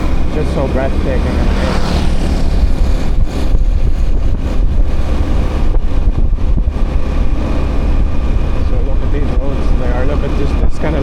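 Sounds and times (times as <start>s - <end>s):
motorbike engine: 0.0s - 11.0s
road noise: 0.0s - 11.0s
wind buffeting microphone: 0.0s - 11.0s.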